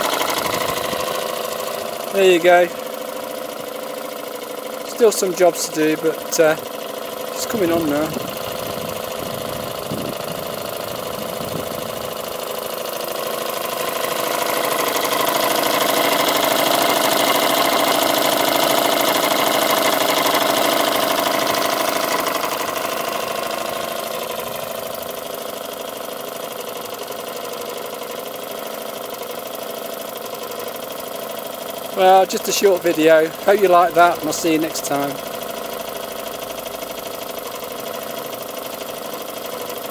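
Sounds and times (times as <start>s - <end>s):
model steam engine beating: 0.0s - 39.9s.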